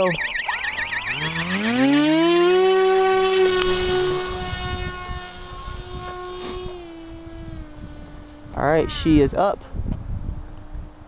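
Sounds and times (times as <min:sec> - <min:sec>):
model plane motor whining: 0:00.0 - 0:11.0.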